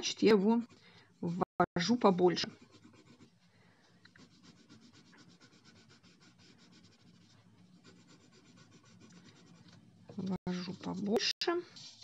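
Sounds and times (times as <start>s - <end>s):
pencil scratching on paper: 0.0s - 3.4s, 4.1s - 12.0s.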